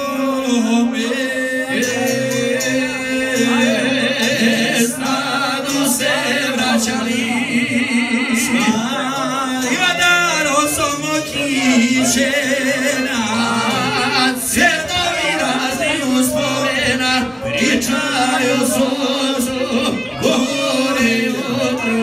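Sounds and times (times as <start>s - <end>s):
two men singing folk song: 0.0s - 22.0s.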